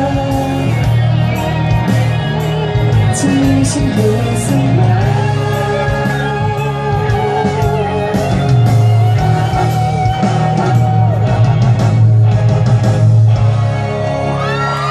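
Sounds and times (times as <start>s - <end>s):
pop ballad through speakers: 0.0s - 14.9s.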